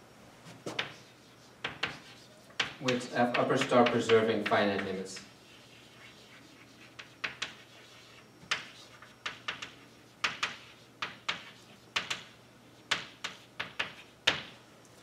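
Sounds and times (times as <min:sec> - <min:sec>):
chalk tapping and scratching on blackboard: 0:00.6 - 0:14.6.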